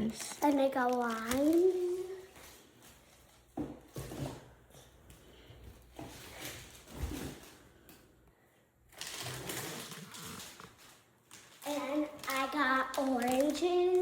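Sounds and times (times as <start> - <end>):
rustling of grocery items: 0.0 - 14.0.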